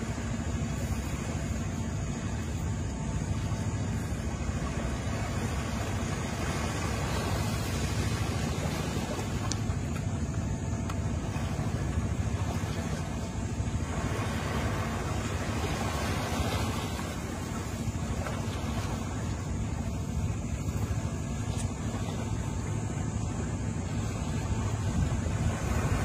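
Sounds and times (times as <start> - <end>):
small waves washing onto sand: 0.0 - 26.0
wind rumble on microphone: 0.0 - 26.0.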